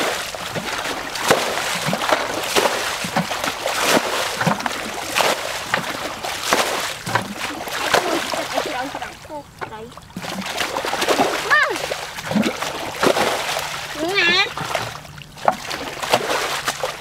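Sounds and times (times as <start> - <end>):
bucket scooping water: 0.0 - 17.0
muddy water splashing: 0.0 - 17.0.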